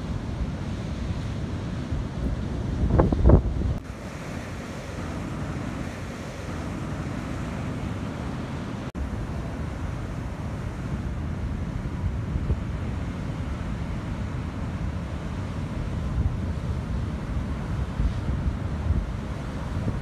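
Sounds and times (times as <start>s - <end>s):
wind on microphone: 0.0s - 8.4s, 9.1s - 20.0s
ocean surf breaking: 0.0s - 20.0s.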